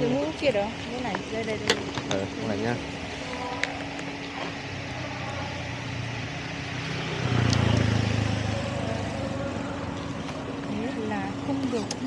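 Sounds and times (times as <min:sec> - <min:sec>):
motor vehicle engine running: 0:00.0 - 0:12.0.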